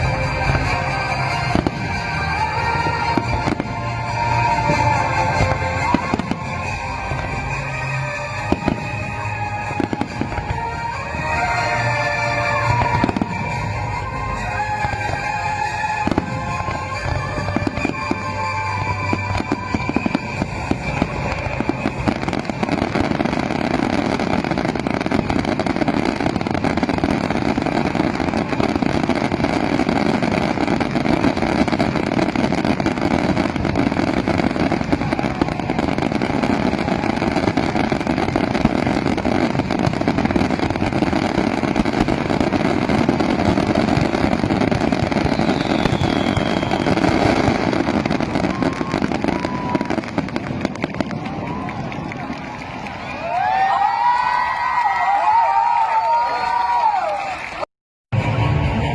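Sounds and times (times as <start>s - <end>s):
fireworks barrage: 0.0s - 56.9s, 57.5s - 58.9s.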